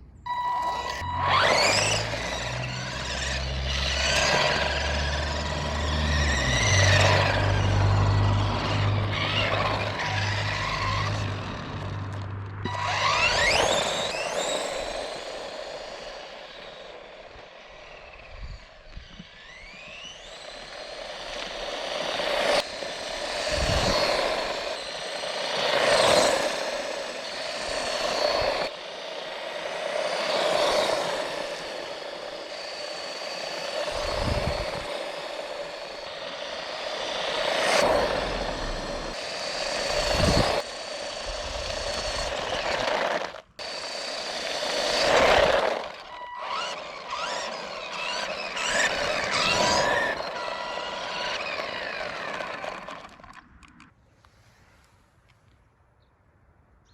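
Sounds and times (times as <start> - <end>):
gritty tyre noise on loose ground: 0.0 - 56.9
electric motor whine: 0.3 - 53.8.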